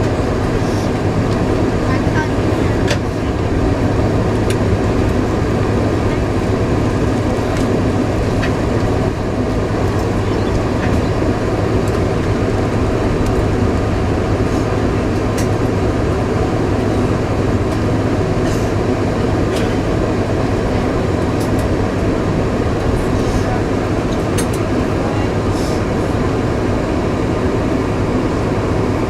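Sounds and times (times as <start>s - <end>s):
jet engines rumbling in cabin: 0.0s - 29.0s.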